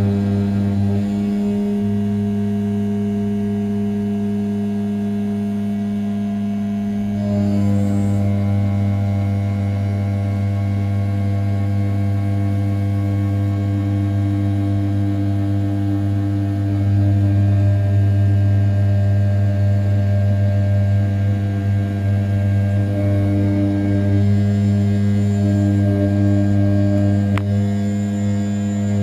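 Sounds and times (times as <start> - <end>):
milling spindle humming: 0.0 - 29.0.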